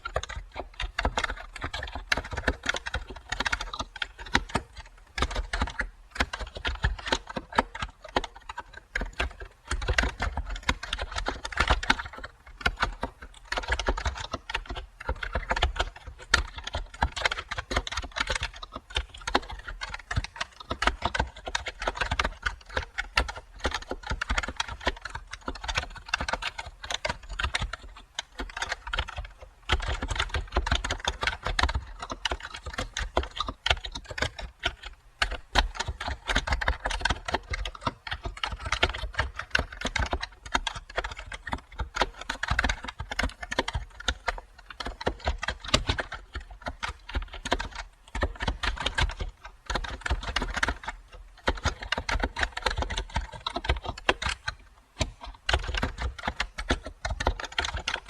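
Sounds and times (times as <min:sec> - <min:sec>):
typing on computer keyboard: 0:00.0 - 0:58.0.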